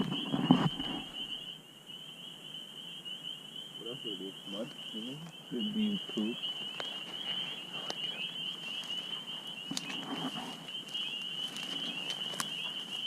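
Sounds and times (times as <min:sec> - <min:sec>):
night insects trilling: 0:00.0 - 0:13.0.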